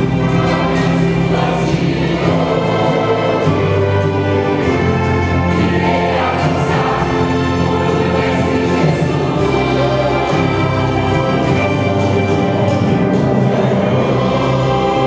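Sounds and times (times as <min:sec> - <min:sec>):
choir singing a hymn: 0:00.0 - 0:15.0
orchestra accompanying: 0:00.0 - 0:15.0.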